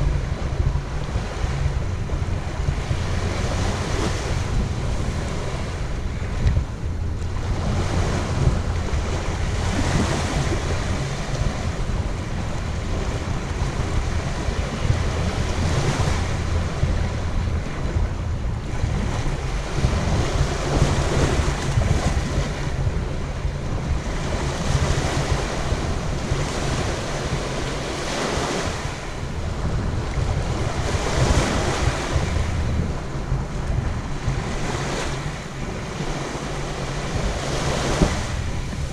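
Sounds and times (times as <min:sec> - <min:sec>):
waves washing onto beach: 0:00.0 - 0:38.9
wind rumbling on microphone: 0:00.0 - 0:38.9.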